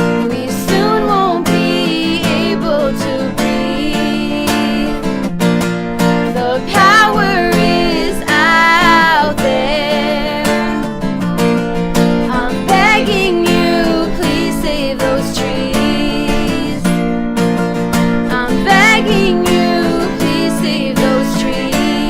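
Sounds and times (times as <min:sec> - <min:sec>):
woman singing: 0:00.0 - 0:05.3, 0:06.2 - 0:10.9, 0:12.2 - 0:17.1, 0:18.2 - 0:22.0
strummed acoustic guitar: 0:00.0 - 0:22.0.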